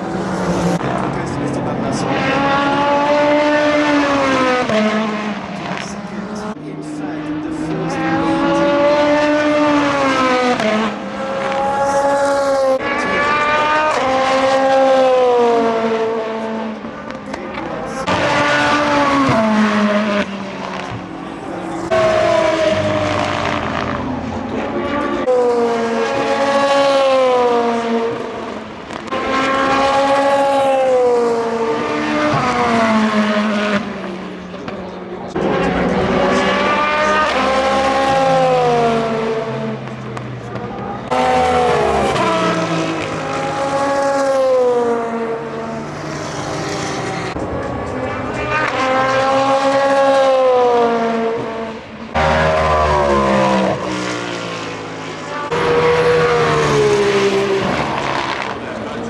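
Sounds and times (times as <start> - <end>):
race cars passing at speed: 0.0 - 59.0.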